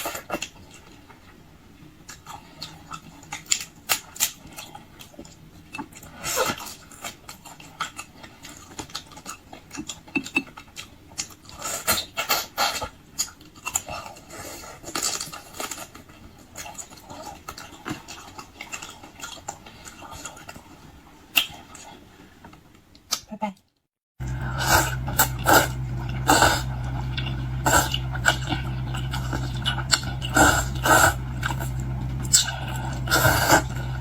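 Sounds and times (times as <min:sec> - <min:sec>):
wet chewing and smacking: 0:00.0 - 0:23.2, 0:24.2 - 0:34.0.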